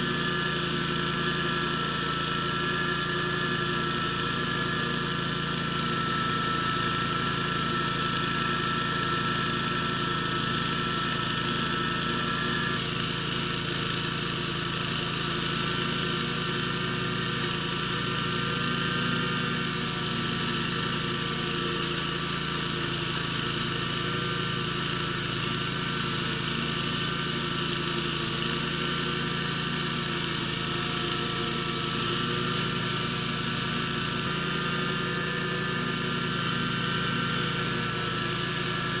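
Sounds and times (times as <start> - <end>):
mower engine running: 0.0 - 39.0.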